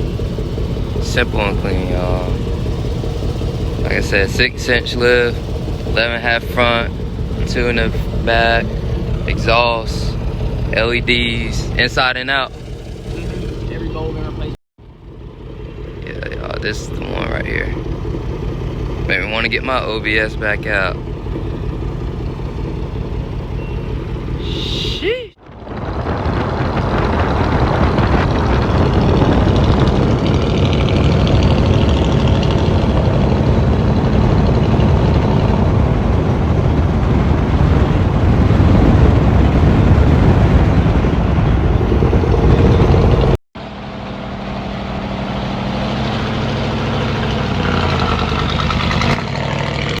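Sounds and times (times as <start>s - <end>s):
truck engine running: 0.0s - 50.0s.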